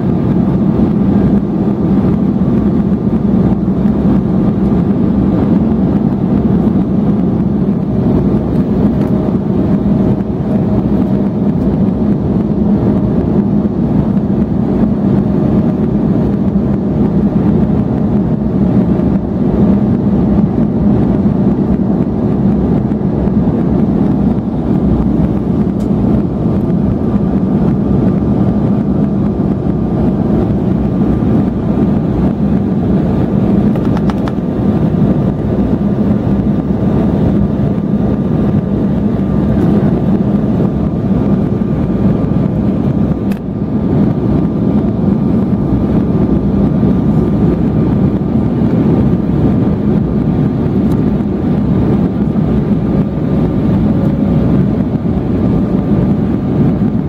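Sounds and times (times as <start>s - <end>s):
airflow rush: 0.0s - 57.0s
faint steady whine: 0.0s - 57.0s
jet engine drone: 0.0s - 57.0s.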